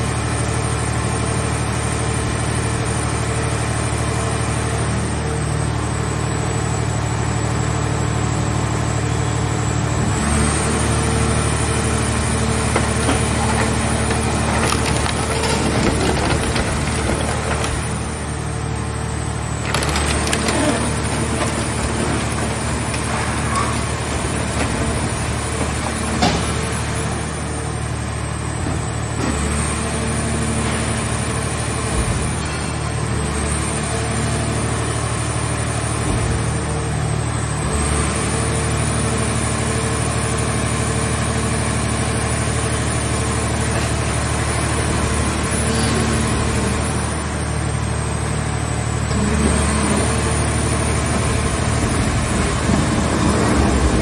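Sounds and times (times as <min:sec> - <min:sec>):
hydraulic power unit running: 0:00.0 - 0:54.0.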